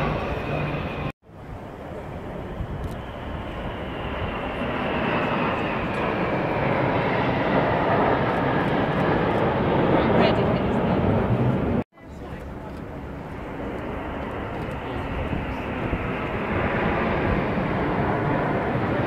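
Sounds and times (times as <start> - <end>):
aircraft engines rumbling overhead: 0.0 - 19.0.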